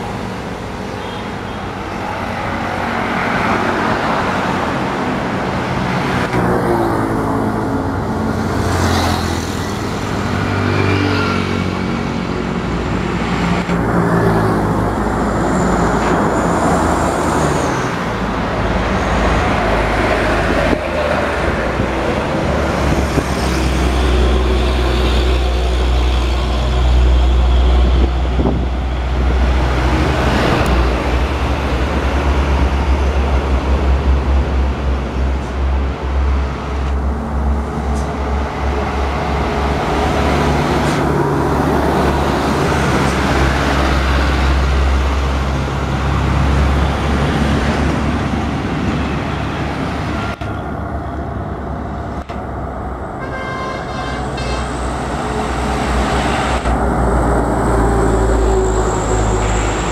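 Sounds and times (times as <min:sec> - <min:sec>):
cars and motorcycles passing: 0:00.0 - 0:59.9
diesel trucks rumbling past: 0:00.0 - 0:59.9.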